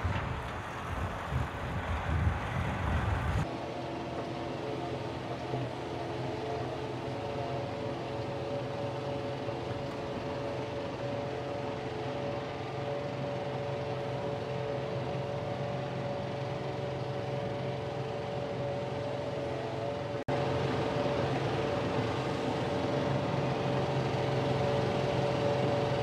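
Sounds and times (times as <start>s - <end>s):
mower whine: 0.0s - 26.0s
tractor diesel engine: 0.0s - 26.0s.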